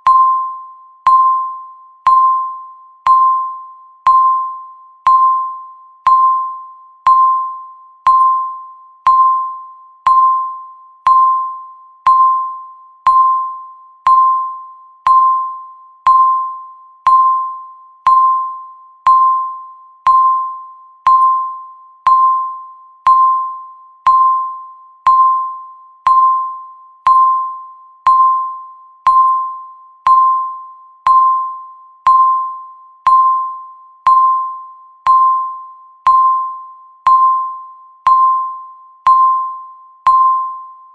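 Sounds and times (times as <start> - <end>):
timer ticking dings: 0.0 - 40.8.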